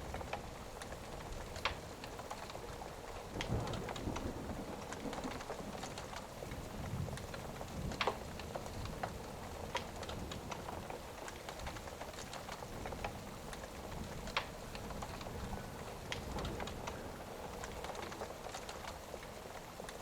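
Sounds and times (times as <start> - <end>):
pouring rain: 0.0 - 20.0
wood fire crackling and popping: 0.0 - 20.0.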